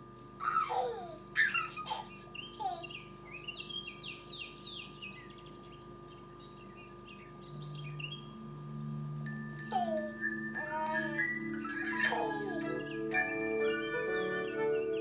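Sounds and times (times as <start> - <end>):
birds chirping and twittering: 0.0 - 15.0
steady hum: 0.0 - 15.0.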